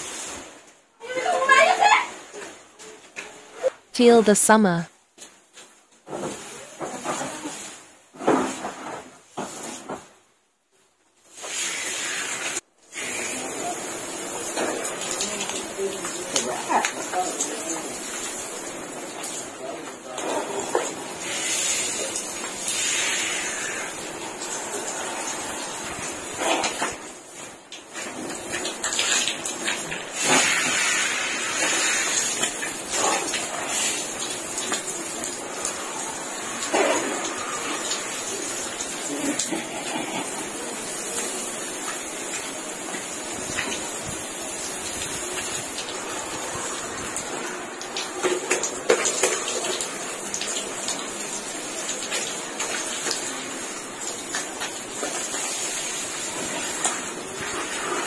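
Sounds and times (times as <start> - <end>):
shower water spraying and splashing: 0.0 - 3.7, 5.2 - 10.2, 11.2 - 58.0.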